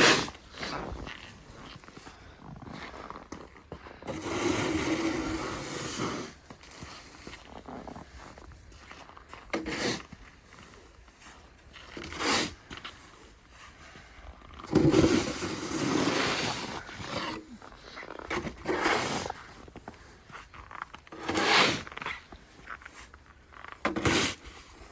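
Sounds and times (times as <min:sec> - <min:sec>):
snow shovel scraping snow: 0:00.0 - 0:24.9.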